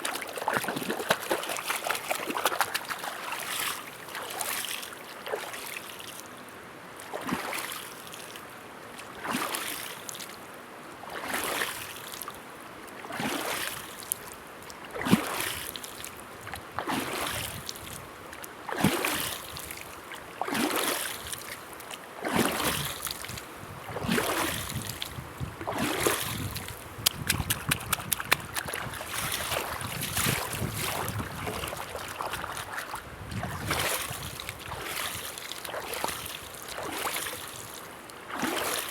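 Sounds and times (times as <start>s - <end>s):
river water sloshing: 0.0s - 38.9s.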